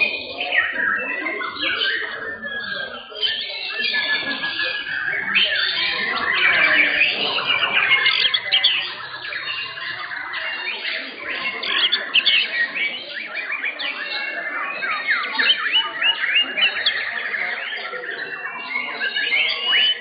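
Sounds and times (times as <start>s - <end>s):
songbird whistling and chirping: 0.0s - 20.0s.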